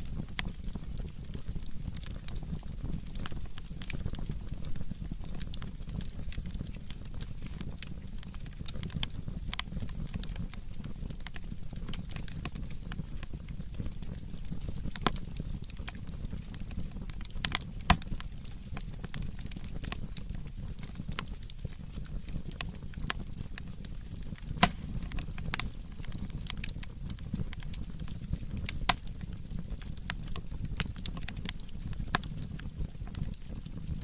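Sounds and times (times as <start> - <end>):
firewood burning and crackling: 0.0 - 34.0
sharp pops from fire: 0.1 - 34.0.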